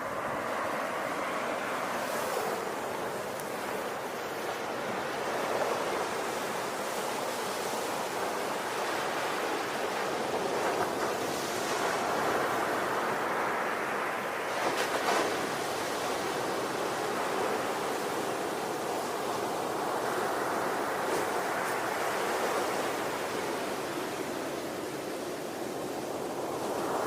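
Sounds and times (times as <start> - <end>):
ocean waves breaking on shore: 0.0 - 27.0.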